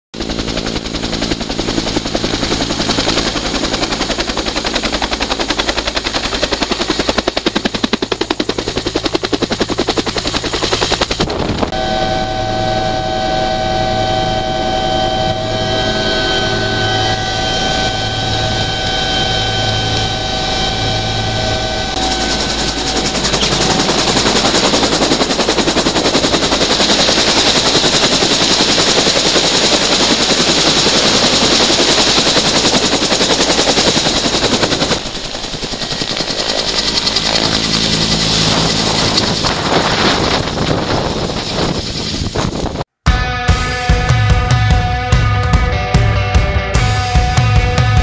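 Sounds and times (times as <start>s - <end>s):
high turbine whine: 0.2s - 42.8s
helicopter rotor chopping: 0.2s - 48.0s.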